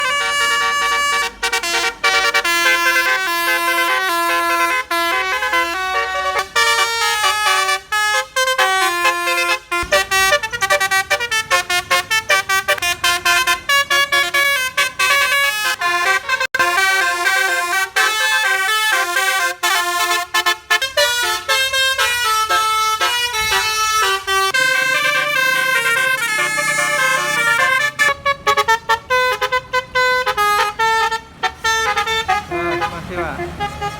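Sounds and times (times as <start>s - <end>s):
tuned air horns playing tune: 0.0s - 33.9s.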